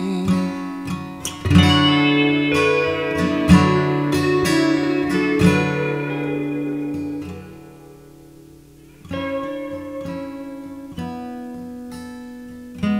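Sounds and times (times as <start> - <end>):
acoustic guitar strumming: 0.0 - 12.9.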